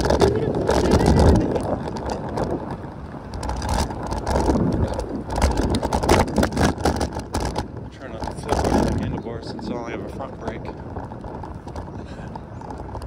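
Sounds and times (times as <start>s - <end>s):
road and traffic noise: 0.0s - 13.0s
wind buffeting microphone: 0.0s - 13.0s.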